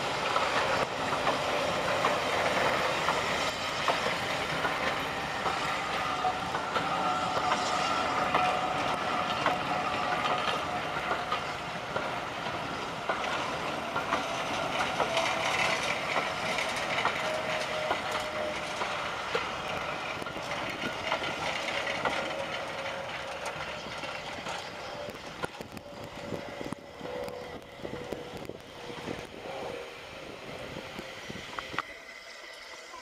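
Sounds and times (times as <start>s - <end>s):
thin steady wheel squeal: 0.0s - 33.0s
wheels clicking over rail joints: 0.0s - 33.0s.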